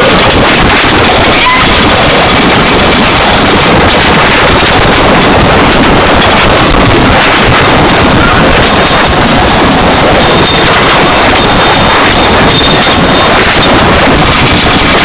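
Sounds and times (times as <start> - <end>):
distorted static noise music: 0.0 - 15.0.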